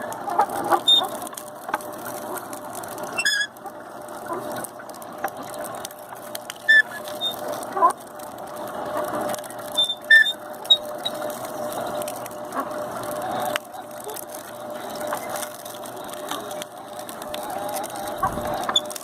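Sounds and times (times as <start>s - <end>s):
electric motor humming: 0.0s - 19.0s.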